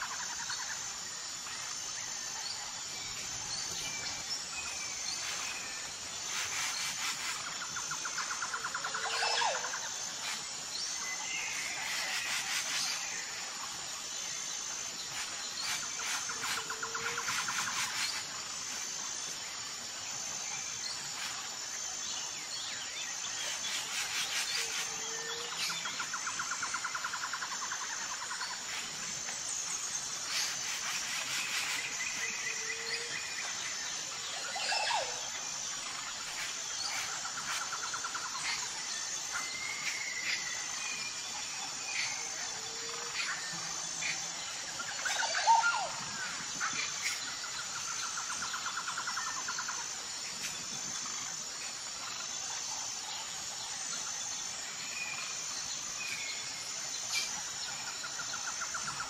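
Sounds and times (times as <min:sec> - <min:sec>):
pulsed insect trill: 0:00.0 - 0:59.0.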